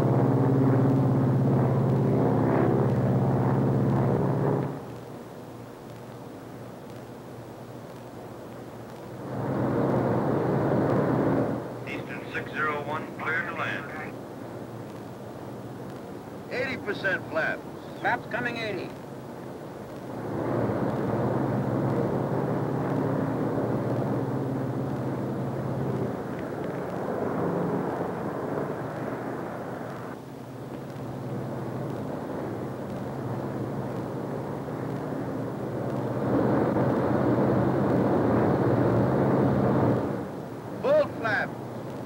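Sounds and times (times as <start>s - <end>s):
piston aircraft engines droning: 0.0s - 42.0s.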